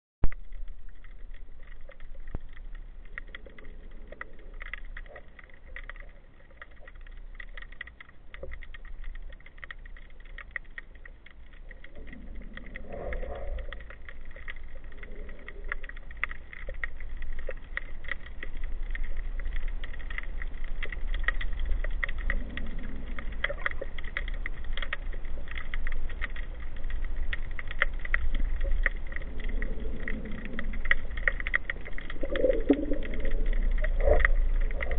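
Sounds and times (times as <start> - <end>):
crackling clicks: 0.2 - 34.9
low underwater rumble: 0.2 - 34.9.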